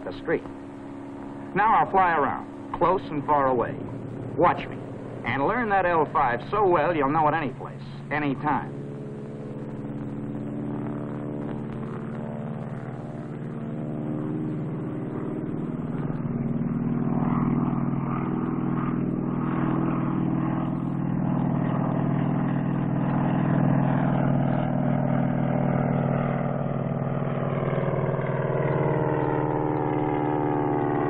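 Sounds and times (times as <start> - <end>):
propeller plane engine droning: 0.0 - 31.0.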